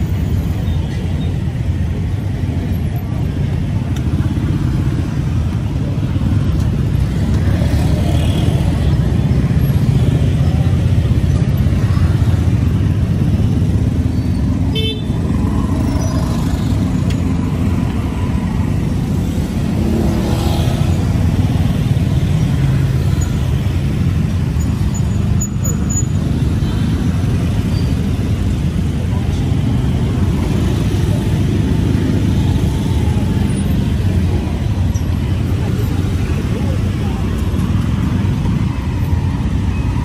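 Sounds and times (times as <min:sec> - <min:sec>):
rumble of passing cars and motorbikes: 0:00.0 - 0:40.0.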